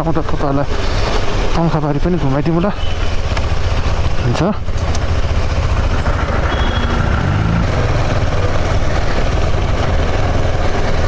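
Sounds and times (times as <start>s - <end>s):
motorbike engine rumble: 0.7s - 11.0s.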